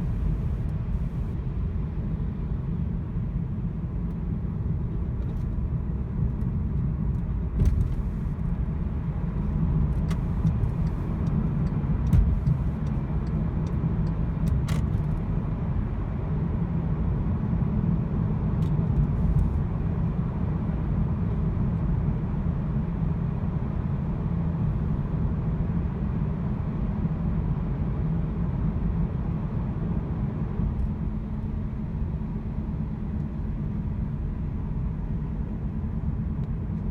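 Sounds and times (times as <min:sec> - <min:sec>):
engine and road rumble: 0:00.0 - 0:36.9.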